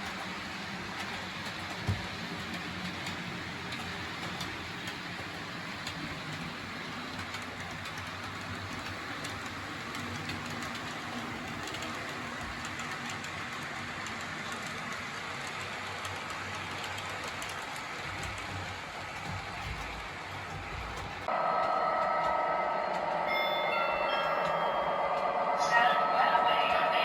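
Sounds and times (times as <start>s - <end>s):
wheels clicking over rail joints: 0.0s - 21.7s
model train rolling hum: 0.0s - 27.0s.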